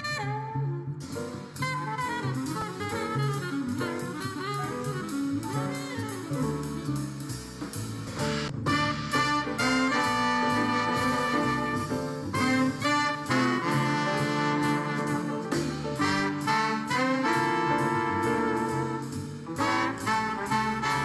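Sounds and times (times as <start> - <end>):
jazz with brass and saxophone: 0.0 - 21.0.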